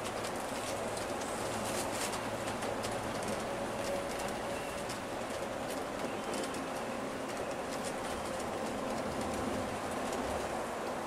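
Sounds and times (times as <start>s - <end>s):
coach engine and road noise: 0.0s - 11.0s.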